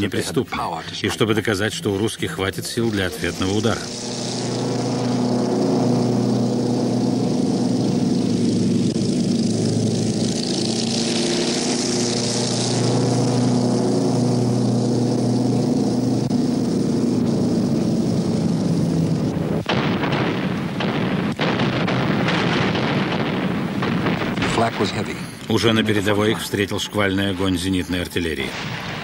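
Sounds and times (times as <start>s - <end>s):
piston aircraft engines droning: 0.0s - 29.0s.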